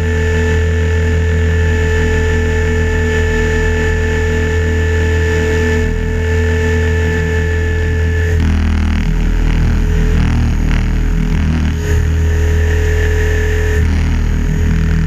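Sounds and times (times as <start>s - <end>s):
low rotor hum: 0.0s - 15.0s
model helicopter motor whine: 0.0s - 15.0s.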